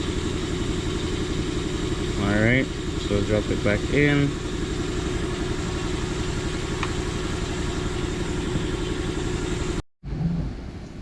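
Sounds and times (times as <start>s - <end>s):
air compressor chugging: 0.0s - 9.8s.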